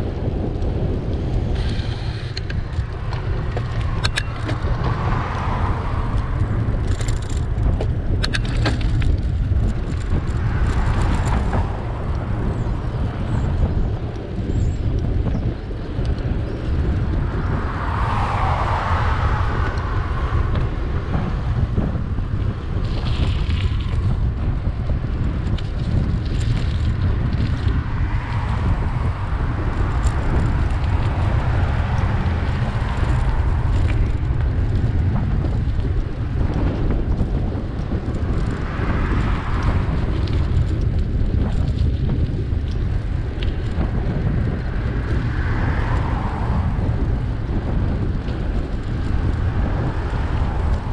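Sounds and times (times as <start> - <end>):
cars passing: 0.0 - 50.9
wind rumbling on microphone: 0.0 - 50.9.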